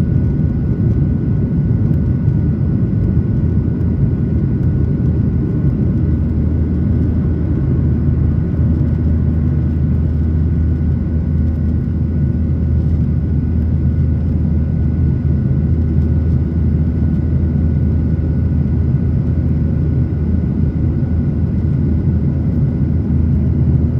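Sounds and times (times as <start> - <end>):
faint steady whine: 0.0 - 23.9
jet engines rumbling in cabin: 0.0 - 23.9.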